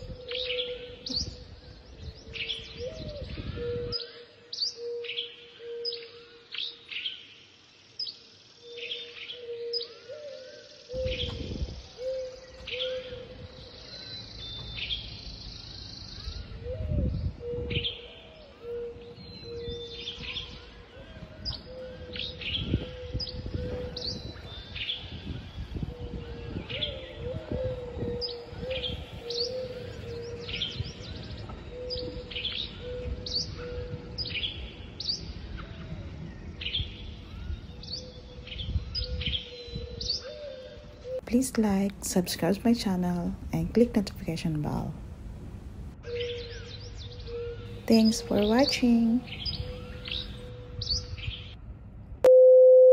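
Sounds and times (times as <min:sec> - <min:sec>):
wind rumble on microphone: 0:00.0 - 0:04.2, 0:10.9 - 0:52.3
birds chirping: 0:00.0 - 0:51.7.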